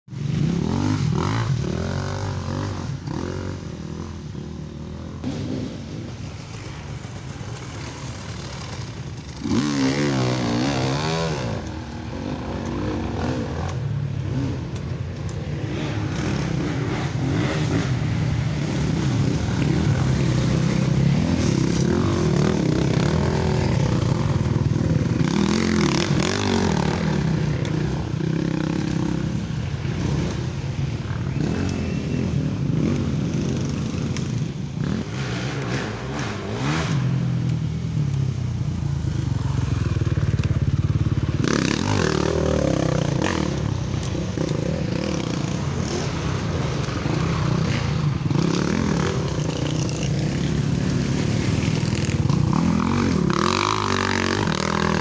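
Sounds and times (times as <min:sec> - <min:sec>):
motorcycle engines revving: 0:00.1 - 0:55.0.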